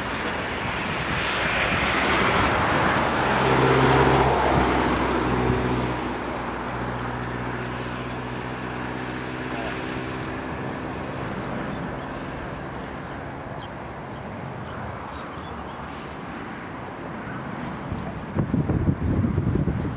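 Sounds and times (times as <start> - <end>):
jet engines rumbling at takeoff: 0.0 - 19.9.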